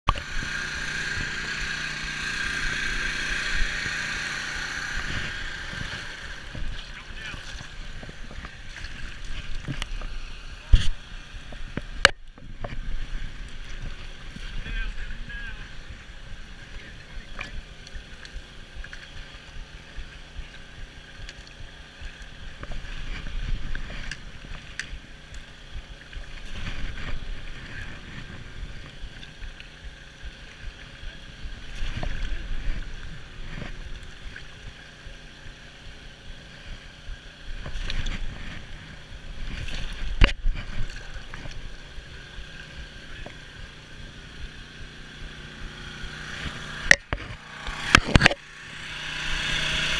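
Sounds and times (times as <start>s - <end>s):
net splashing through water: 0.1s - 12.0s, 17.3s - 49.9s
faint steady hum: 0.1s - 49.9s
water swishing around legs: 0.1s - 49.9s.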